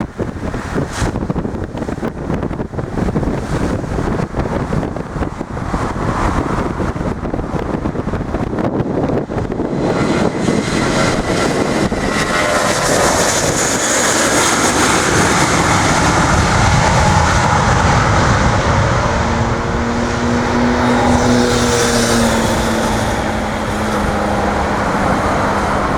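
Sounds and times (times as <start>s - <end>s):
jet engine low rumble: 0.0s - 25.9s.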